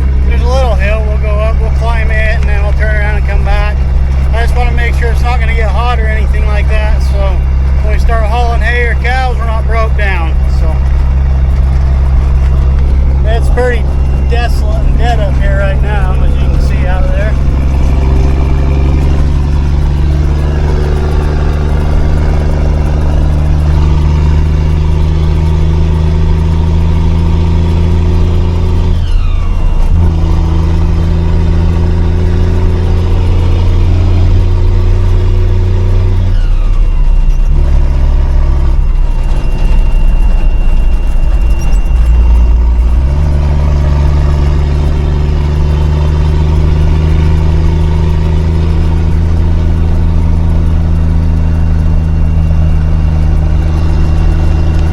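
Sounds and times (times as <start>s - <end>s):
truck engine running under load: 0.0s - 54.9s.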